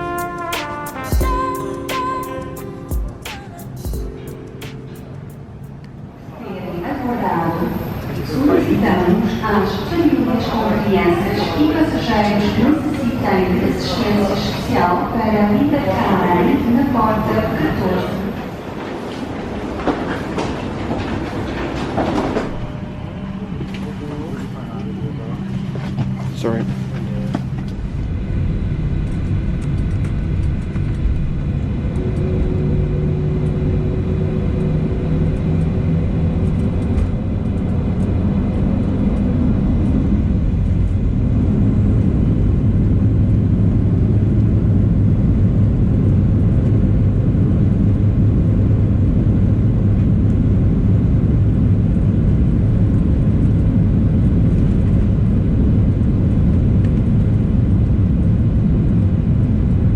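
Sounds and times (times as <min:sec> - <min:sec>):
jet engine roar in cabin: 0:02.9 - 0:59.9.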